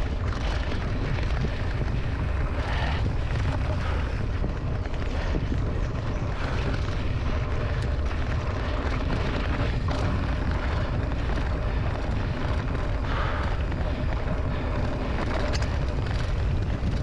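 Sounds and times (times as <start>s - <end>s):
bike tyres on dirt track: 0.0s - 17.0s
wind buffeting microphone: 0.0s - 17.0s.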